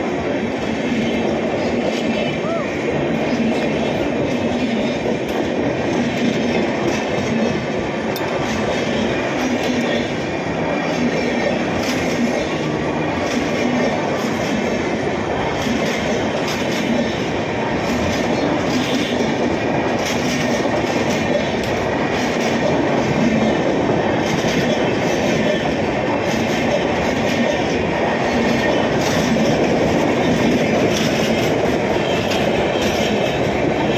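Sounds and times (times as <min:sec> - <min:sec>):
train wheels rumbling and clacking: 0:00.0 - 0:33.9.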